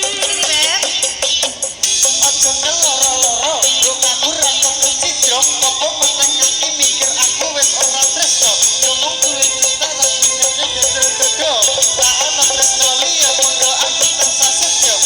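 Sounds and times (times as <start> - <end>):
rattling percussion beat: 0.0 - 15.0
wavering melody: 1.8 - 15.0.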